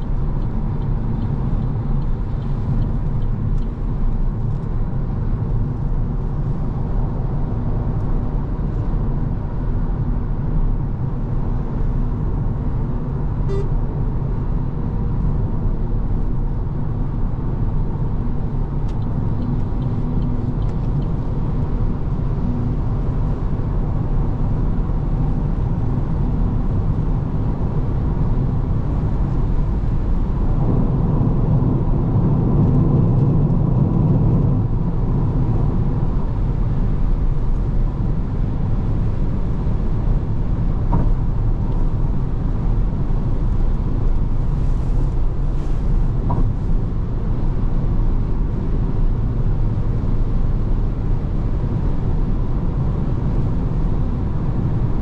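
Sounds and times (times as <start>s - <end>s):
road and wind noise in car: 0.0s - 55.0s.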